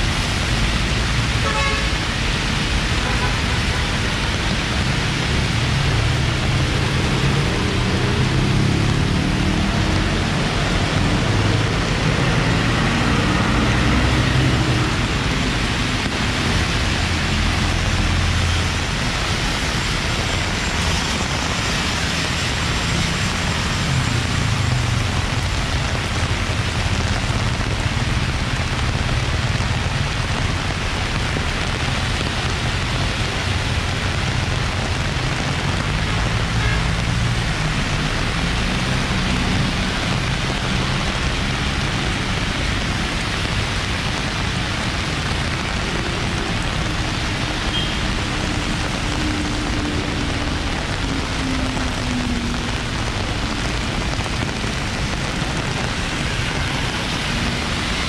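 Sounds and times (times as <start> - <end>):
cars and motorbikes passing: 0.0 - 58.0
heavy rain on pavement: 0.0 - 58.0.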